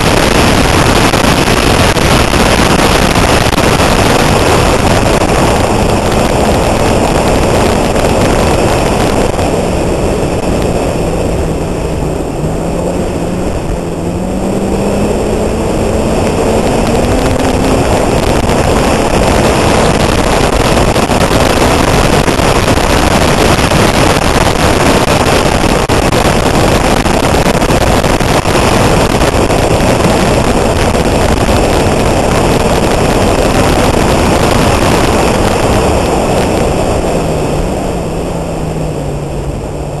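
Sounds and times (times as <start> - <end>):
rally car engine: 0.0 - 40.0
wind buffeting on camera: 0.0 - 40.0.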